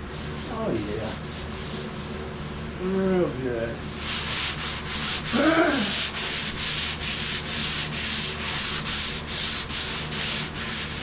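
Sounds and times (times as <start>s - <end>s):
sandpaper rubbing on metal panel: 0.0s - 11.0s.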